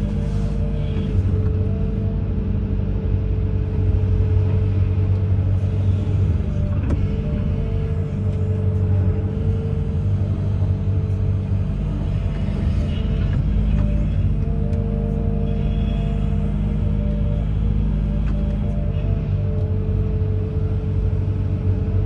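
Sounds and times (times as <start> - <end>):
diesel engine rumbling hum: 0.0 - 22.0.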